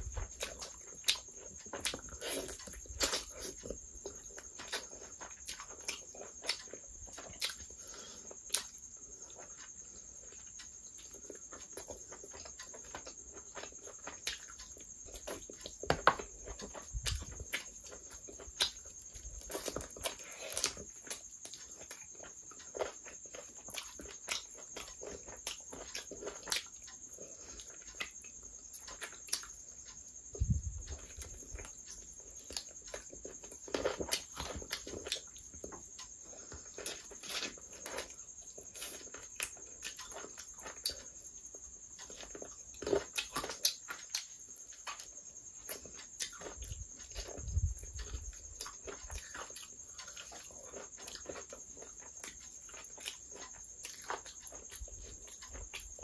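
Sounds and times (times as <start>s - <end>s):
wet chewing and lip smacking: 0.1s - 56.0s.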